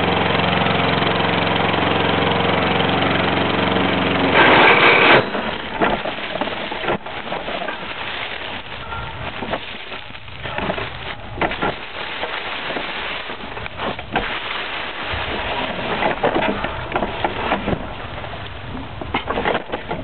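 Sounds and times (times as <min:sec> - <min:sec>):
mower crackling through dry leaves: 0:00.0 - 0:20.0.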